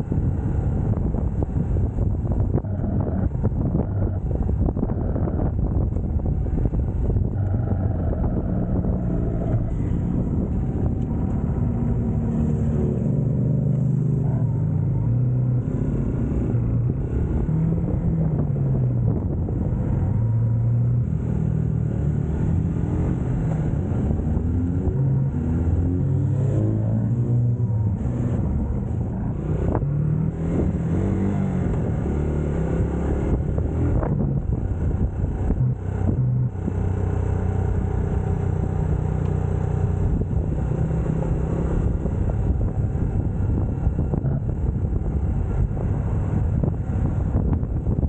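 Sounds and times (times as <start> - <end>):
motorcycle engine revving: 0.0 - 48.0
wind rushing over microphone: 0.0 - 48.0.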